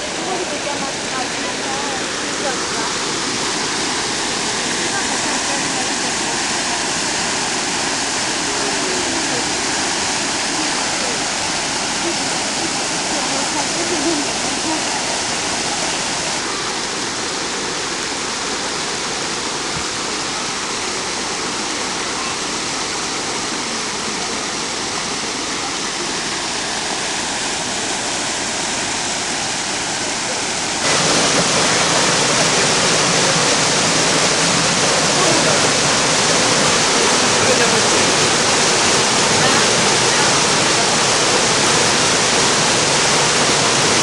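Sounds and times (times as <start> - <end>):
water rushing over waterfall: 0.0 - 44.0.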